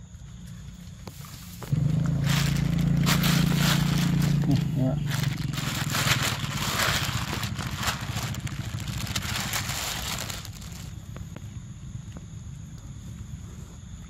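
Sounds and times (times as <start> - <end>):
low hum: 1.6 - 14.0.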